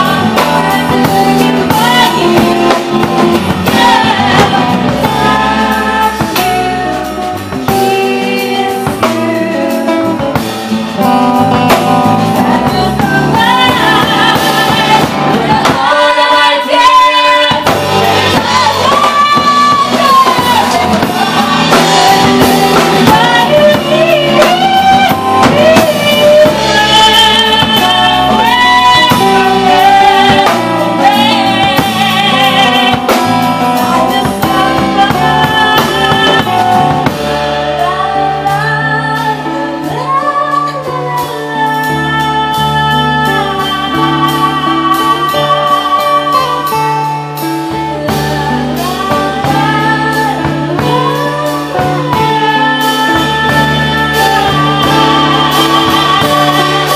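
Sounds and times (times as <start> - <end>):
acoustic guitar: 0.0 - 56.9
bass: 0.0 - 56.9
drum kit: 0.0 - 56.9
person singing with vibrato: 0.0 - 56.9.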